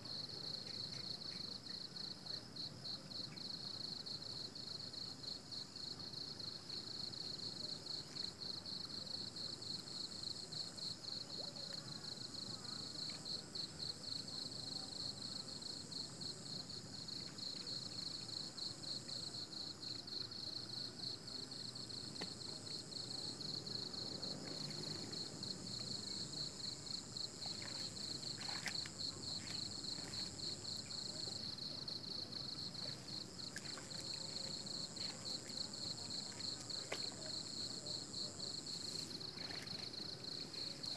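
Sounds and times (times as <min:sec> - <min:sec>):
high steady insect tone: 0:00.2 - 0:40.9.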